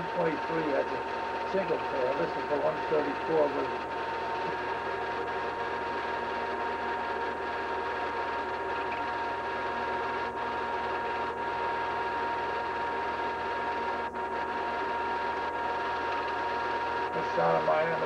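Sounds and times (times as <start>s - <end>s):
film projector whirring: 0.0s - 18.0s.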